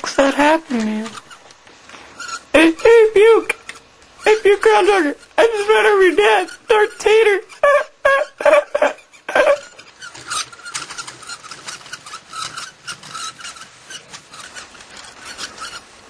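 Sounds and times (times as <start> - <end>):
rasping scrapes: 0.4 - 16.0.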